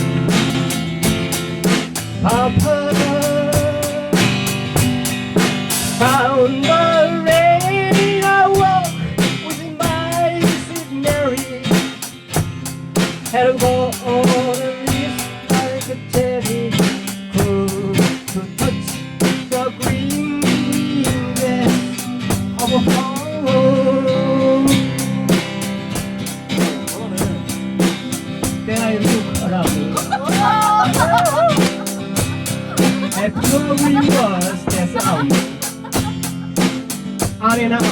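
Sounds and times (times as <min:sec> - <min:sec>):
steady drum beat: 0:00.0 - 0:23.9, 0:24.5 - 0:37.9
guitar: 0:00.0 - 0:37.9.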